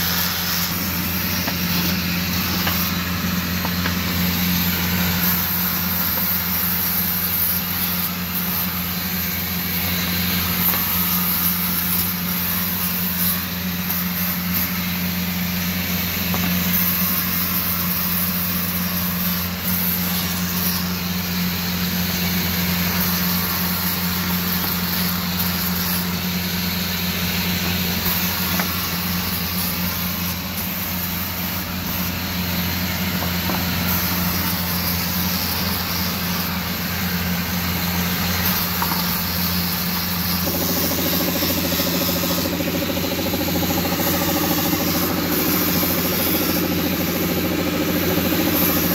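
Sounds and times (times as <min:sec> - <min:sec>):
angle grinder whining: 0:00.0 - 0:48.9.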